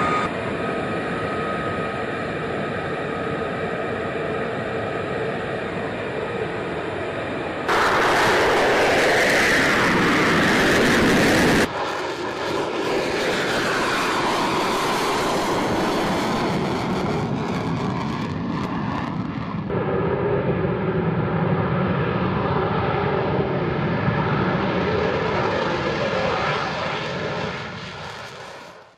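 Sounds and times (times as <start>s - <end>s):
jet engine roaring: 0.0s - 28.9s.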